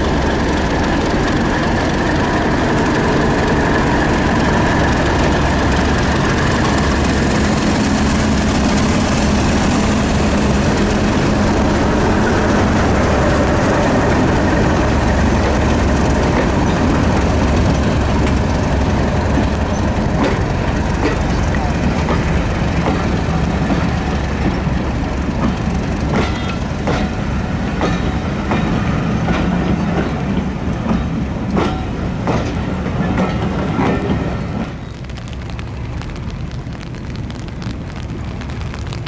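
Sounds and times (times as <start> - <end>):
diesel train engine running: 0.0 - 39.0.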